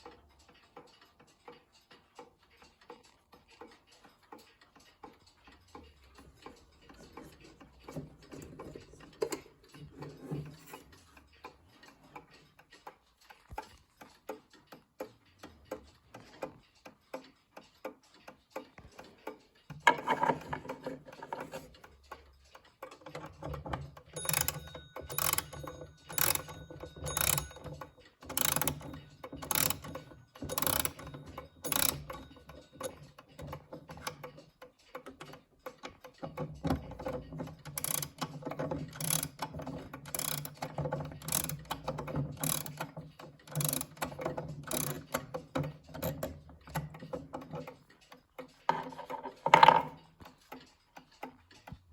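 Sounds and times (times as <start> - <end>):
alarm clock ticking: 0.0 - 51.9
clock mechanism clicking like ratchet: 0.0 - 51.9.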